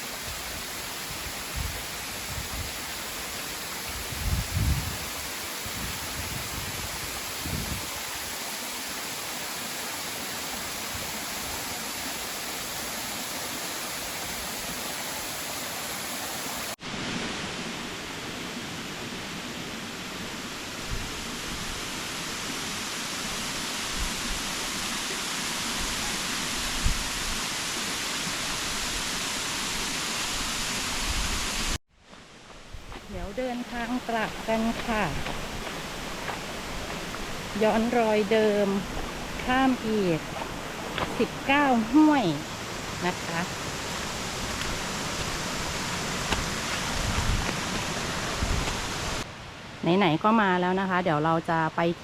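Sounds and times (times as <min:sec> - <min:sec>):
waterfall rushing: 0:00.0 - 0:31.8, 0:33.6 - 0:49.3.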